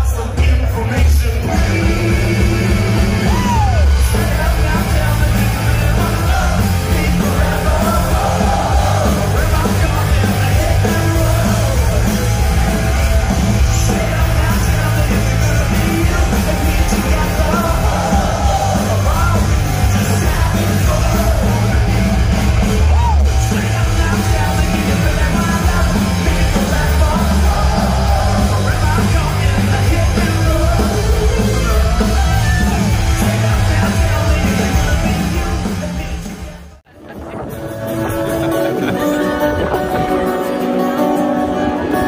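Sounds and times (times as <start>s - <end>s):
heavy bass: 0.0s - 40.4s
drums: 0.0s - 42.0s
electric guitars: 0.0s - 42.0s
vocals: 0.0s - 42.0s.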